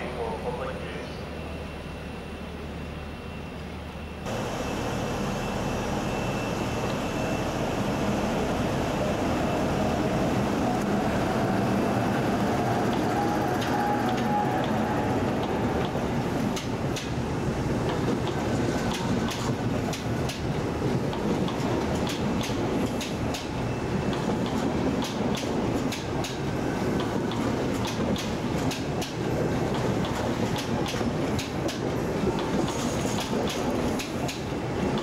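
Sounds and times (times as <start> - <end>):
train rumbling along platform: 0.0 - 35.0.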